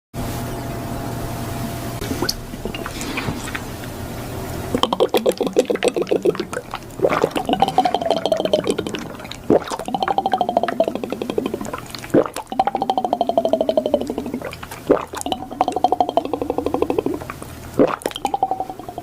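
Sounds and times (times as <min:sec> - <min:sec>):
slurping and gurgling liquid: 0:02.1 - 0:04.0, 0:04.7 - 0:19.0.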